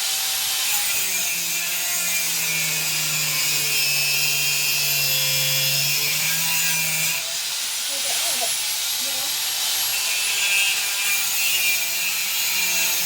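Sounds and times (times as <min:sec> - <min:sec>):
angle grinder cutting steel: 0:00.0 - 0:13.0.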